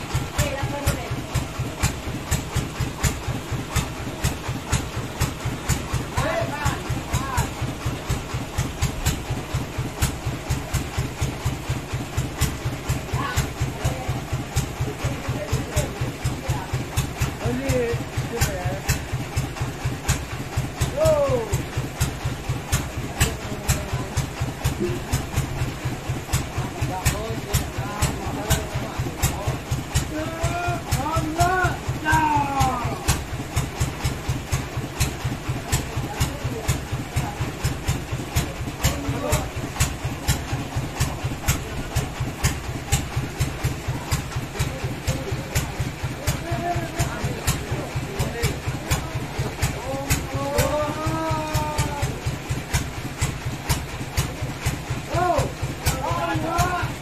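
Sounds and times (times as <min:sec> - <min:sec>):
engine idling with low chugging: 0:00.0 - 0:57.0.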